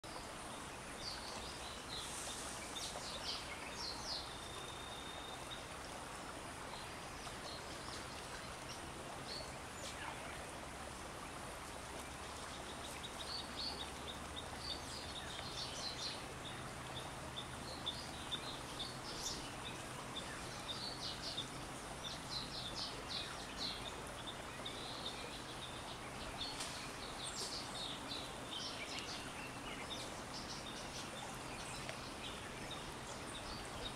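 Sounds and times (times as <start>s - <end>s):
small stream murmuring: 0.0s - 33.9s.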